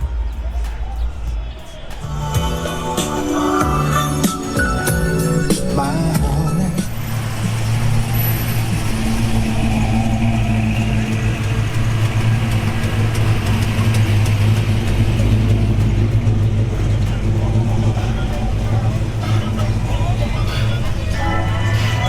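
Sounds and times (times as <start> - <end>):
car engine running: 2.1 - 22.0.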